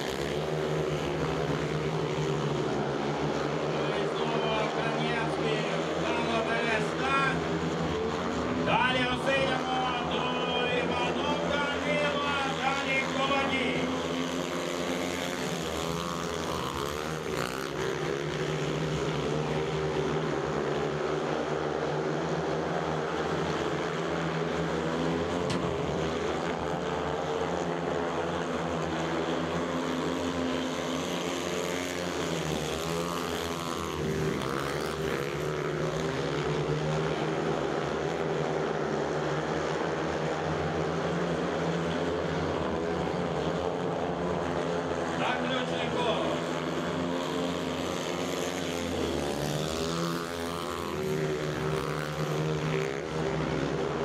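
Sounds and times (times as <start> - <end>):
motorcycles racing: 0.0 - 54.0.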